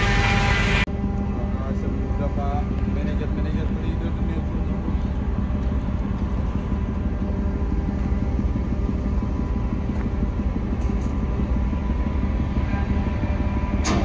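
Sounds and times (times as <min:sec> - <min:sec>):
large engine droning: 0:00.0 - 0:14.0.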